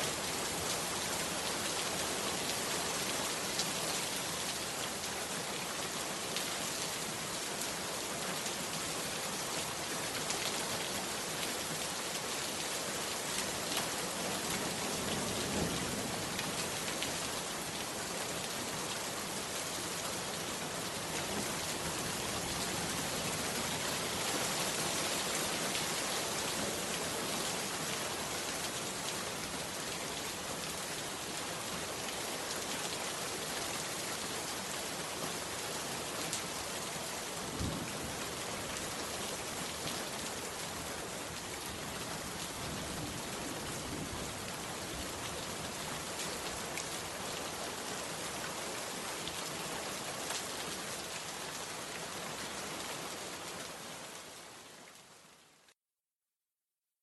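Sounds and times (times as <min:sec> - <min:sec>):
heavy rain on hut roof: 0:00.0 - 0:55.8.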